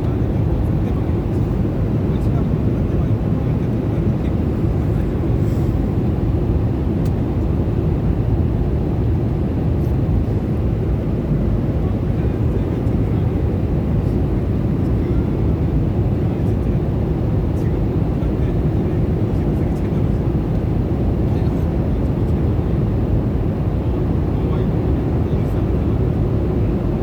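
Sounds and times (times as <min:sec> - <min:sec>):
airliner cabin noise: 0:00.0 - 0:27.0.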